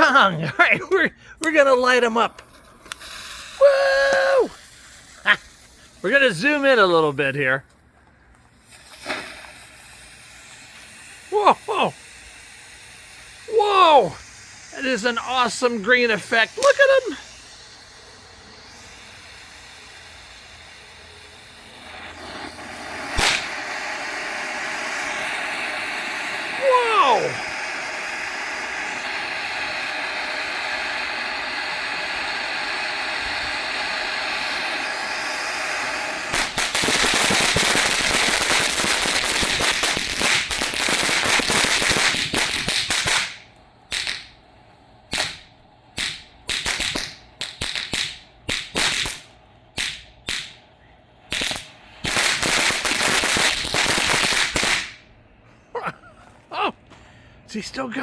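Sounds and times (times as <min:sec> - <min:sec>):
firework crackle: 0:00.0 - 0:55.1
fountain firework hissing: 0:00.0 - 0:55.1.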